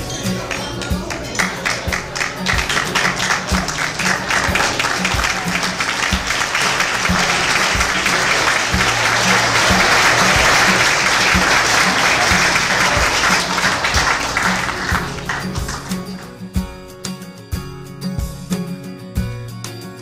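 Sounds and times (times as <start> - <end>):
music with a steady beat: 0.0 - 20.0
guests applauding: 0.1 - 16.5.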